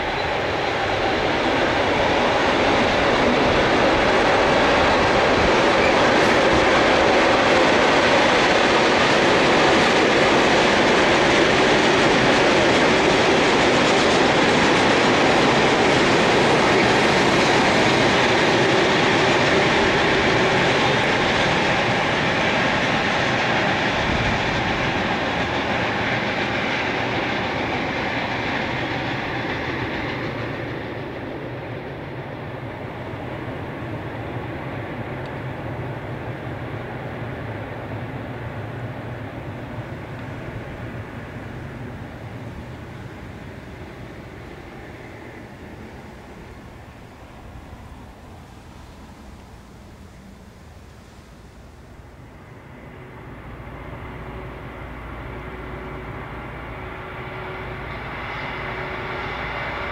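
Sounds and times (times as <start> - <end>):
freight train rolling on rails: 0.0 - 59.9.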